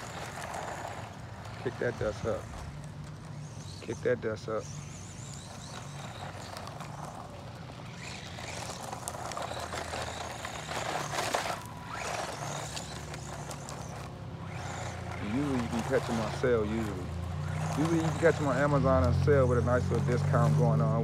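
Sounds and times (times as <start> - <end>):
electric motor running: 0.0 - 21.0
tyres kicking up grit: 0.0 - 21.0.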